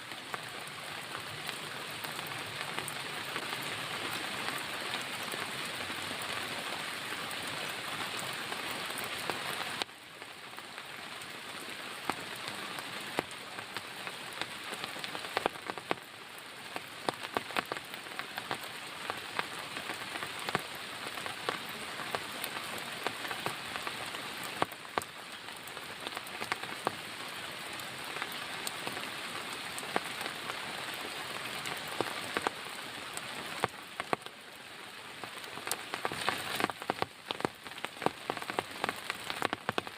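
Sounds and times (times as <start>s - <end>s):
heavy rain falling: 0.0s - 39.9s
raindrops ticking close by: 0.0s - 39.9s.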